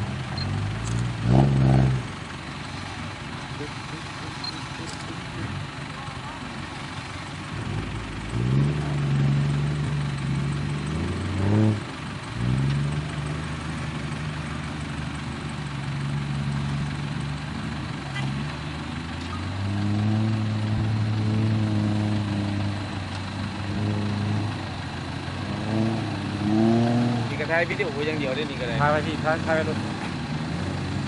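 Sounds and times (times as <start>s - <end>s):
off-road engine revving: 0.0s - 31.0s.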